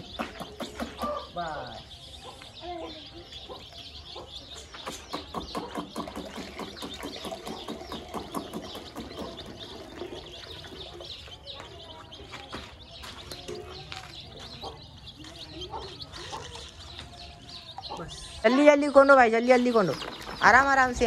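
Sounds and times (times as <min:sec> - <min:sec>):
baby chicks peeping: 0:00.0 - 0:21.0.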